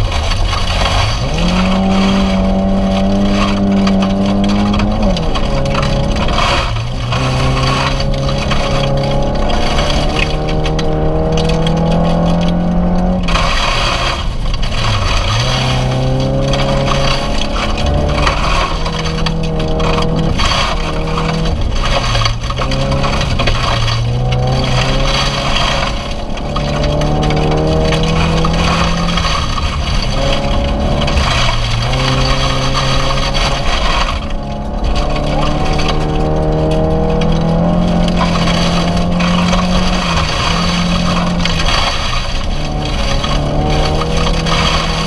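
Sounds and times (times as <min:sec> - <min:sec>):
rally car engine revving: 0:00.0 - 0:45.0
stones rattling on underside: 0:00.0 - 0:45.0.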